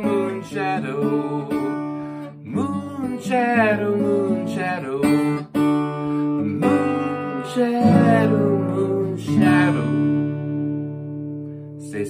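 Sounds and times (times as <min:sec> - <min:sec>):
man singing: 0:00.0 - 0:10.6, 0:11.8 - 0:12.0
acoustic guitar strummed: 0:00.0 - 0:12.0.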